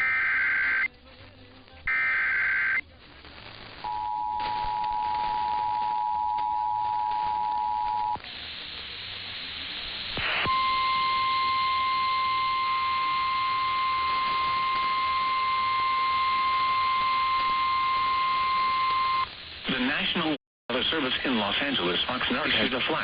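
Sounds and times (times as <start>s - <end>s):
radio hiss: 0.0s - 23.0s
static crackle: 0.0s - 23.0s.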